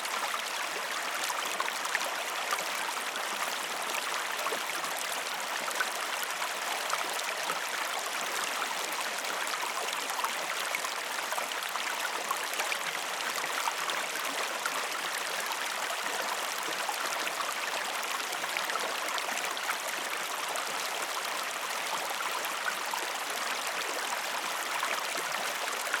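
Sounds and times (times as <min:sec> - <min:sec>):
mountain stream rushing over rocks: 0:00.0 - 0:26.0.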